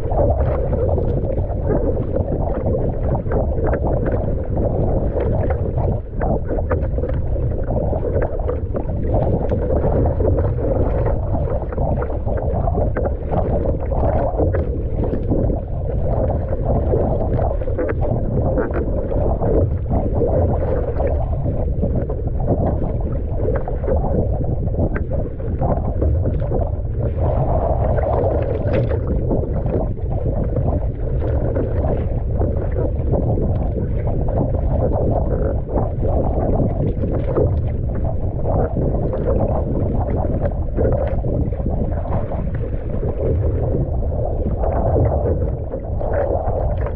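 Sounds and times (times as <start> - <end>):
paddle strokes in water: 0.0 - 46.9
water slapping against hull: 0.0 - 46.9
wind buffeting microphone: 0.0 - 46.9.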